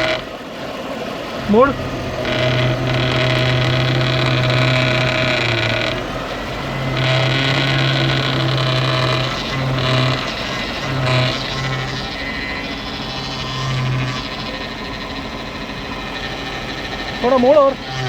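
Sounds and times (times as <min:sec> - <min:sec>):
engine idle hum: 0:00.0 - 0:18.0
power steering pump whine: 0:00.0 - 0:18.0.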